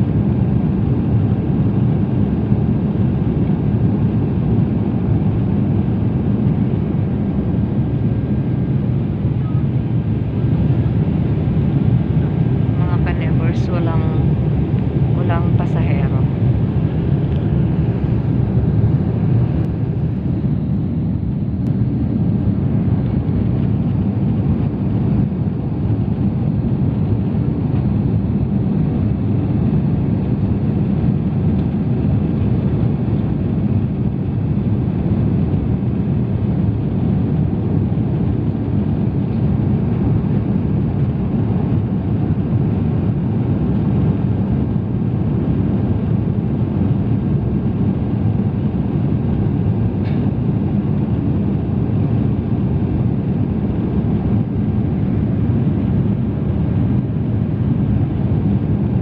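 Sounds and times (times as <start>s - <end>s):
airliner cabin engine roar: 0.0s - 59.0s.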